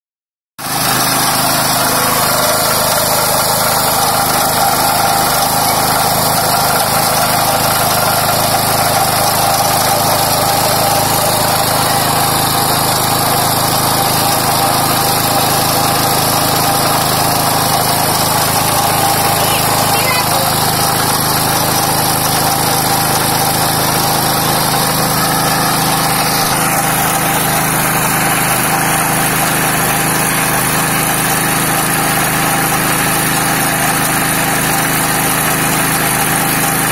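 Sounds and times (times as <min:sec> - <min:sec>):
small petrol engine running: 0:00.6 - 0:36.9.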